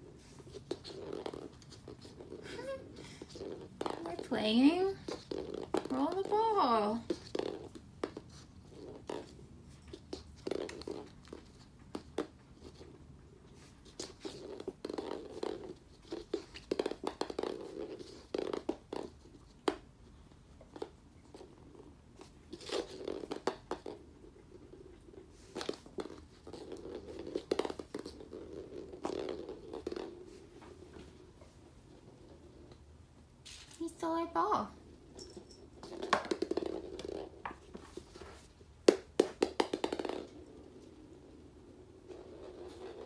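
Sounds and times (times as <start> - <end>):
paws and ball tapping on floor: 0.0 - 32.0, 35.1 - 41.0.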